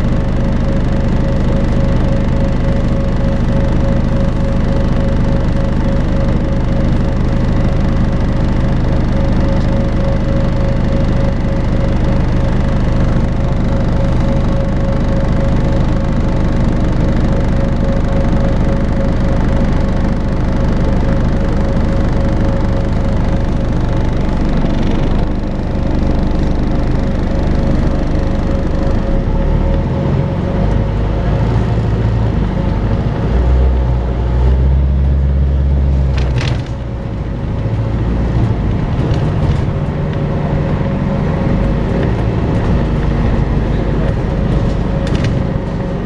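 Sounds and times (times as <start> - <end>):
bus engine and road rumble: 0.0 - 46.0
bus whine: 0.0 - 46.0.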